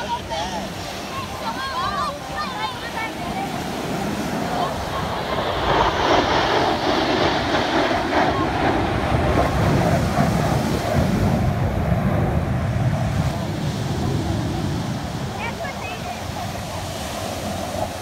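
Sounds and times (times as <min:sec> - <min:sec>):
jet fighters passing overhead: 0:00.0 - 0:18.0.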